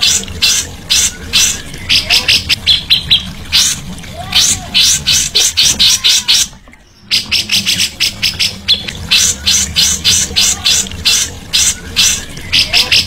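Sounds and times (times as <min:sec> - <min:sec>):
songbird harsh rasping calls: 0:00.0 - 0:13.0.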